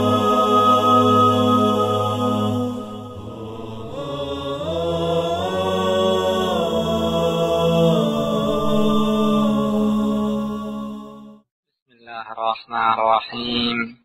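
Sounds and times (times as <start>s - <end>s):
vocal chant music: 0.0s - 14.0s.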